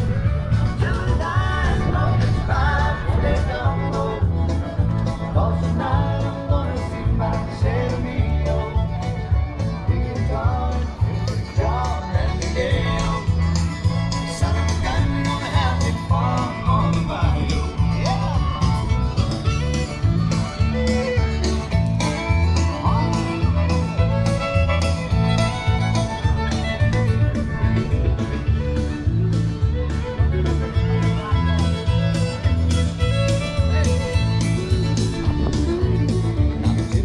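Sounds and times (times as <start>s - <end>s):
country music with bass beat: 0.0s - 37.0s.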